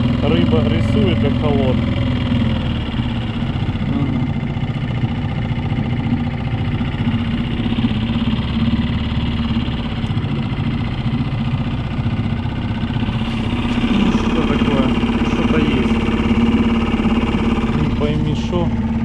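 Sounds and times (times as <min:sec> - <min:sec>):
outboard motor running at low speed: 0:00.0 - 0:19.0.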